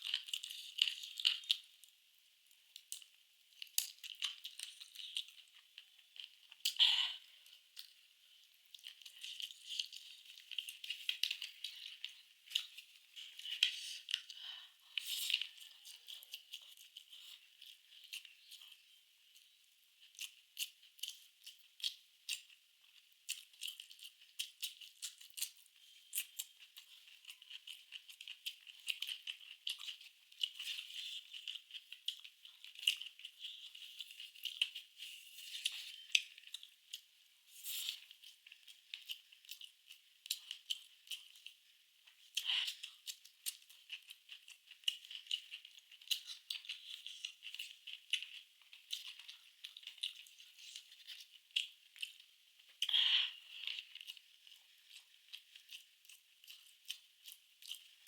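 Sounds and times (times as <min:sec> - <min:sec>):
chewing food close up: 0:00.0 - 0:58.0.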